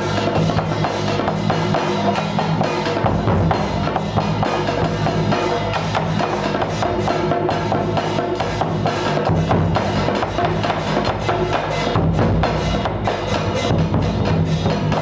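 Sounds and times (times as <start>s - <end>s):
rapid drum strikes: 0.0s - 15.0s.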